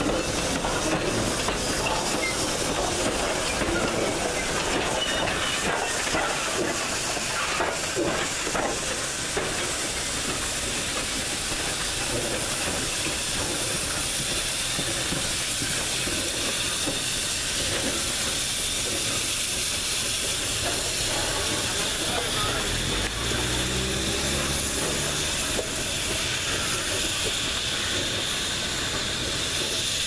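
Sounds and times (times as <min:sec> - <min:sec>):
hiss of escaping steam: 0:00.0 - 0:30.0
train wheels clicking over rail joints: 0:00.0 - 0:30.0.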